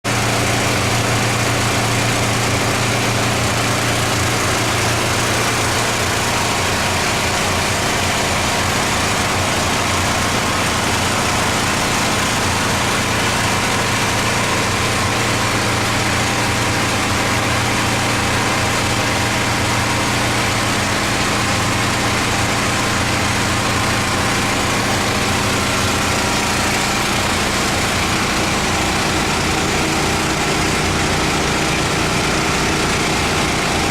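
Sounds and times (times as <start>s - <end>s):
pressure washer engine running: 0.0s - 33.9s.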